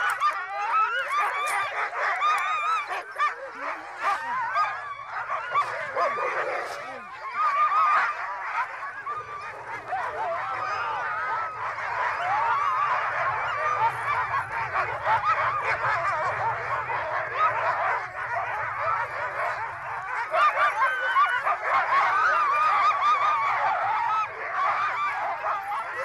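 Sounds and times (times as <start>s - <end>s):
dogs yelping and whining: 0.0s - 26.0s.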